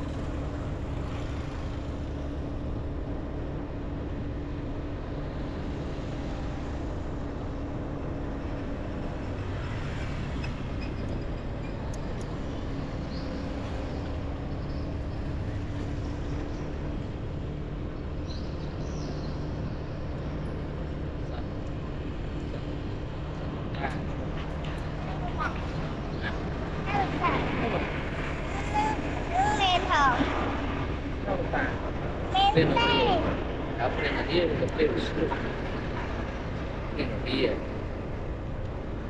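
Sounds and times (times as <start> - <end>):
street traffic noise: 0.0 - 39.0.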